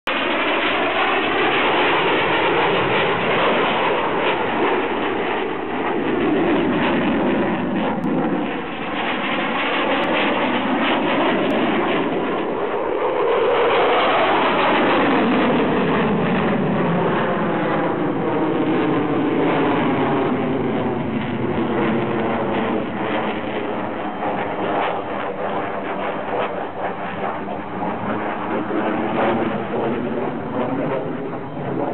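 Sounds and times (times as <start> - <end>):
loud jet engine noise: 0.0 - 31.9.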